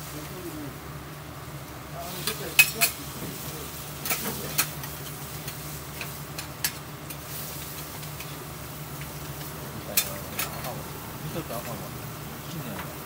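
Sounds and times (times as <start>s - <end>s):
food sizzling on griddle: 0.0s - 13.0s.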